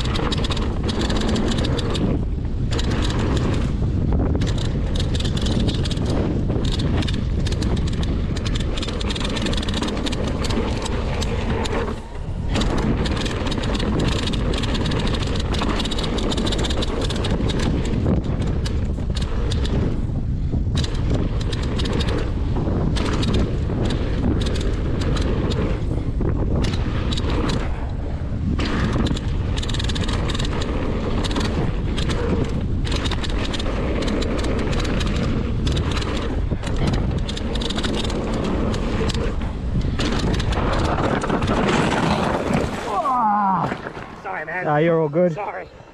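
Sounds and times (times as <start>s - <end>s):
tyres rumbling on dirt: 0.0s - 20.1s, 20.7s - 45.9s
bike rattling over bumps: 0.0s - 45.3s
wind buffeting microphone: 0.0s - 45.9s.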